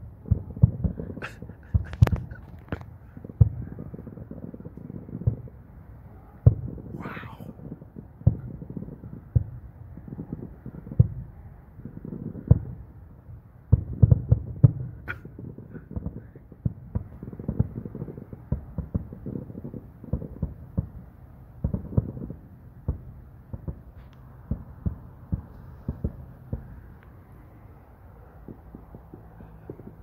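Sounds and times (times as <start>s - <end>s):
distant fireworks bangs and pops: 0.0s - 5.8s, 6.4s - 6.9s, 7.5s - 30.0s.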